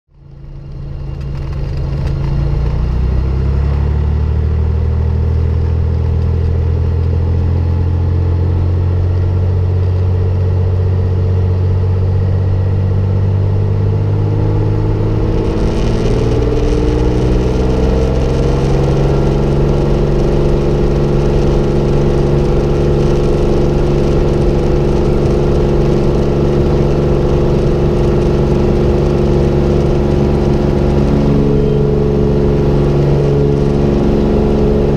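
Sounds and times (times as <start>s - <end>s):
propeller plane engine running: 0.1s - 34.9s.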